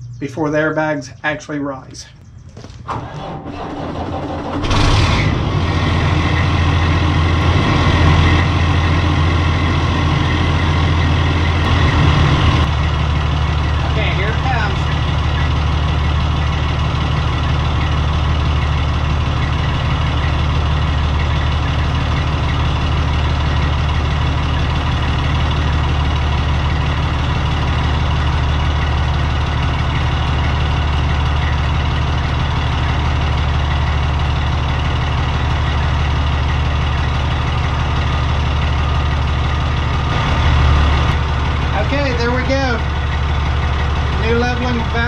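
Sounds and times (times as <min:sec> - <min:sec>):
diesel truck engine idling: 0:00.0 - 0:45.0.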